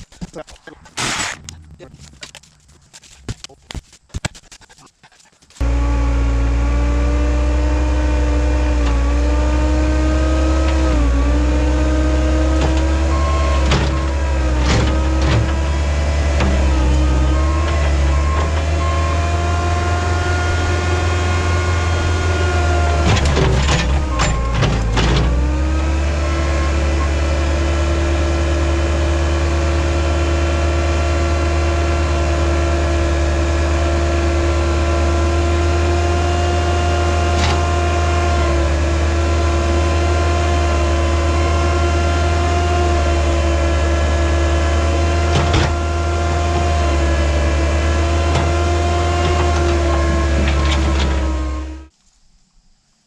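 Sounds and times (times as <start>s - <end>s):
loader engine rumbling: 0.0s - 51.9s.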